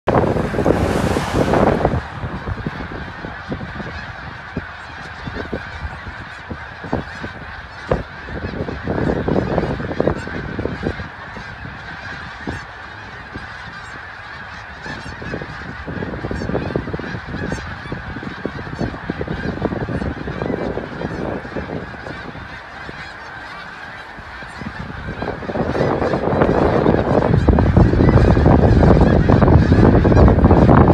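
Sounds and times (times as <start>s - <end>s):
wind buffeting microphone: 0.0s - 30.9s
flock of geese calling: 0.1s - 30.9s.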